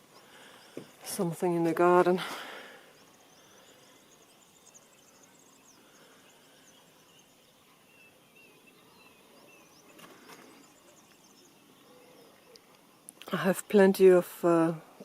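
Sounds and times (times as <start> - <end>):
distant birds chirping: 0.0 - 15.0.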